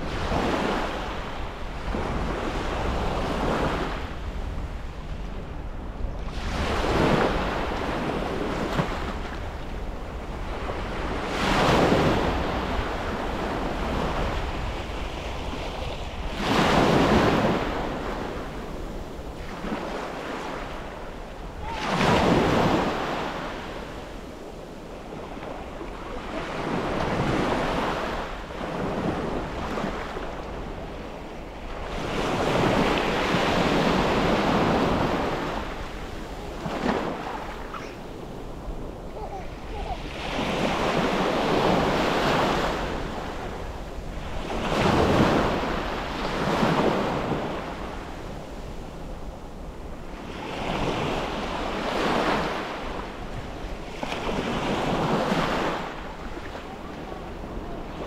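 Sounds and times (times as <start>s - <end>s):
small waves breaking on beach: 0.0s - 58.0s
wind rumble on microphone: 0.0s - 58.0s.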